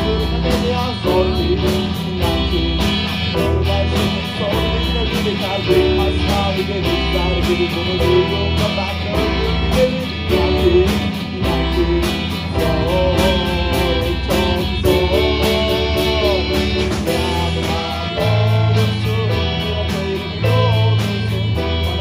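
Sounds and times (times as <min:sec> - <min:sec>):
live rock band playing: 0:00.0 - 0:22.0
sliding lead melody: 0:00.0 - 0:22.0.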